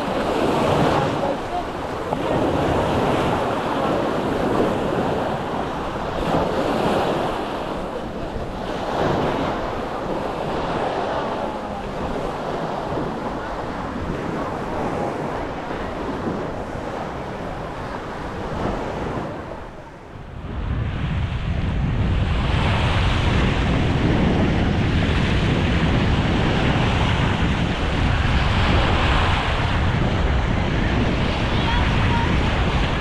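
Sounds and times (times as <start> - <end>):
surf washing on a beach: 0.0 - 33.0
wind buffeting microphone: 0.0 - 33.0.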